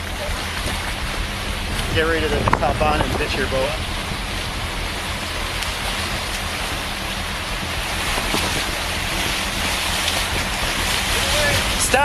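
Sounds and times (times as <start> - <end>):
boat motor hum: 0.0 - 12.0
choppy water wash: 0.0 - 12.0
wind buffeting microphone: 0.0 - 12.0.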